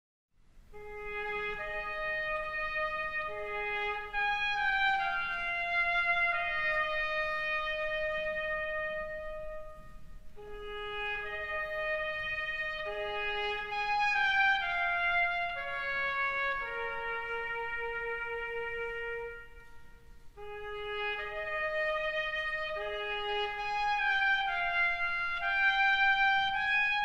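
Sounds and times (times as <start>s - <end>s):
slow melody of held notes: 0.7s - 27.0s.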